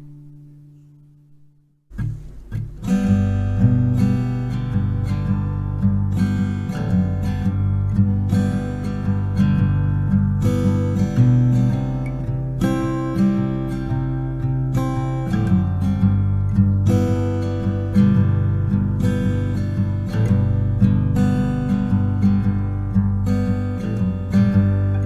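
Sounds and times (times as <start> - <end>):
acoustic guitar strummed chords: 0.0 - 25.0.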